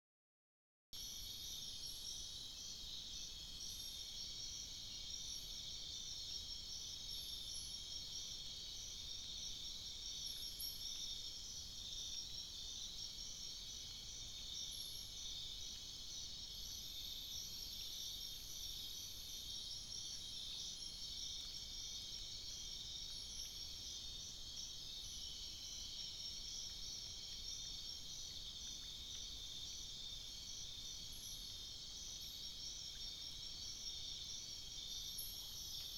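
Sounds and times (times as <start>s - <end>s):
insects buzzing and trilling: 1.0s - 35.9s.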